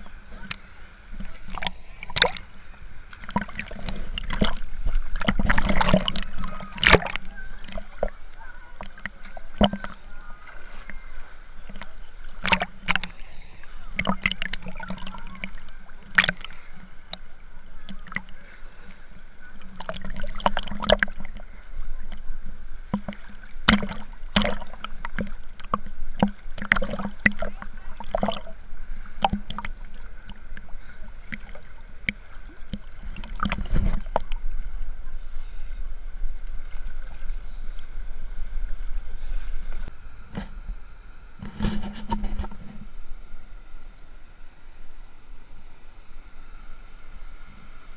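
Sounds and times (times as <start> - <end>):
water sloshing and splashing: 0.0 - 43.6
river current rushing: 0.0 - 47.9.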